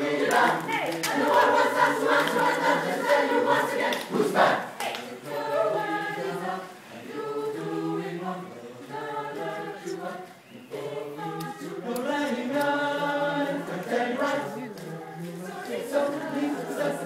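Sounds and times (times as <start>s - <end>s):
mixed choir singing a cappella: 0.0s - 17.0s.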